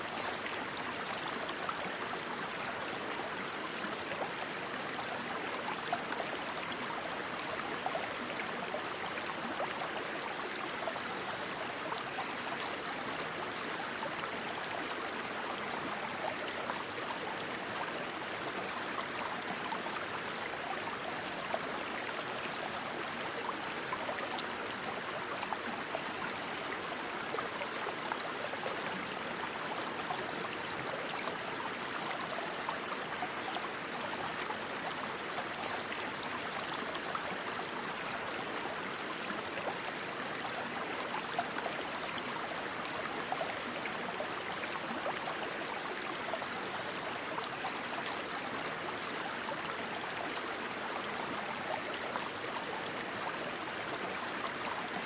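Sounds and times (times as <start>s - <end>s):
rushing stream water: 0.0s - 55.0s.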